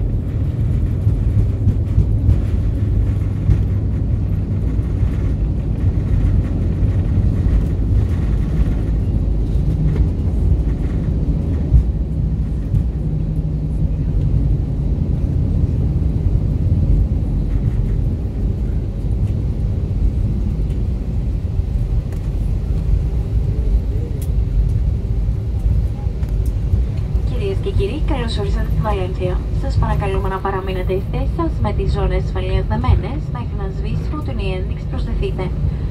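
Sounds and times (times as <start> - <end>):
jet cabin low rumble: 0.0 - 35.9.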